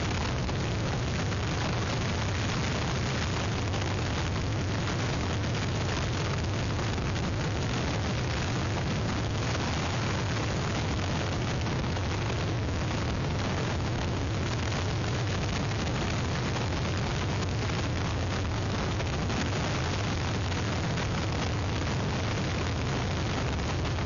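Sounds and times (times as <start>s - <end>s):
wind and rain rushing: 0.0s - 24.0s.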